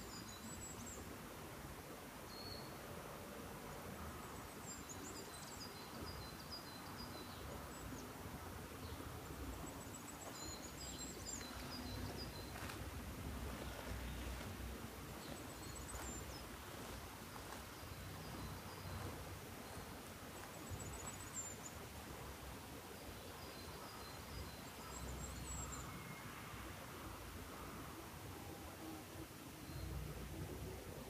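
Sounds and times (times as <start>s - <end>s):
background air hiss: 0.0s - 31.0s.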